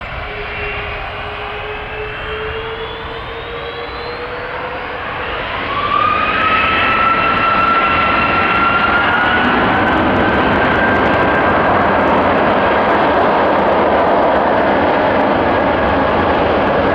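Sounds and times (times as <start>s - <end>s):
higher jet whine: 0.0s - 16.9s
jet engines roaring: 0.0s - 16.9s.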